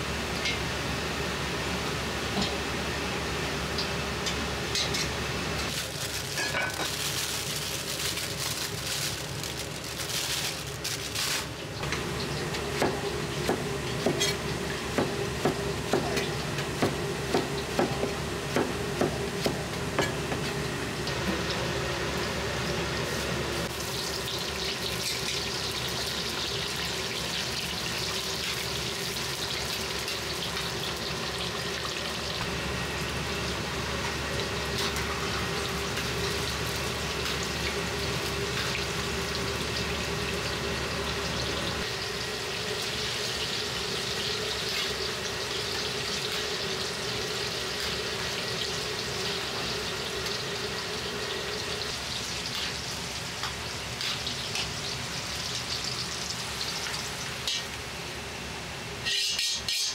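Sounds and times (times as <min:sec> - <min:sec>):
wok range hiss: 0:00.0 - 0:59.9
vegetables sizzling in hot oil: 0:03.3 - 0:59.9.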